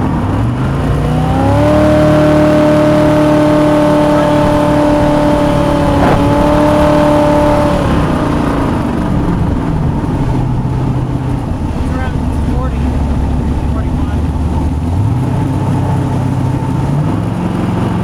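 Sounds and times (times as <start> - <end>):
boat engine revving: 0.0 - 18.0.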